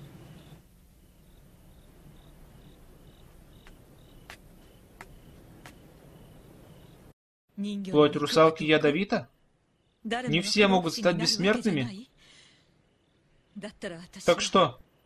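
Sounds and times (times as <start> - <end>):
crickets chirping: 0.0 - 7.1, 8.8 - 15.0.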